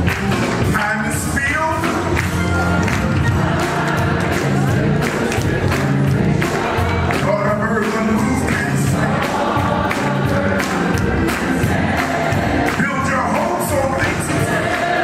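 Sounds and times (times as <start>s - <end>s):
choir singing gospel music: 0.0s - 15.0s.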